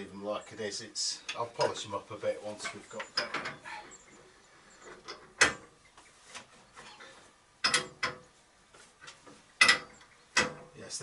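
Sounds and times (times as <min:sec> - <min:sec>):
quiet handling sounds: 0:00.0 - 0:10.8.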